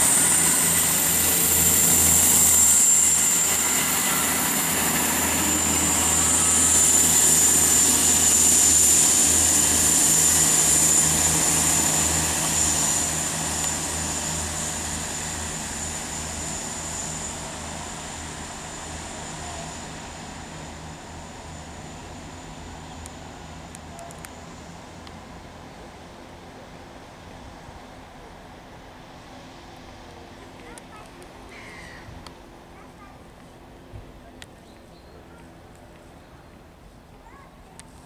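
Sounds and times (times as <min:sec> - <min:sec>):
diesel train engines throbbing: 0:00.0 - 0:31.5
high steady whine: 0:00.0 - 0:34.1.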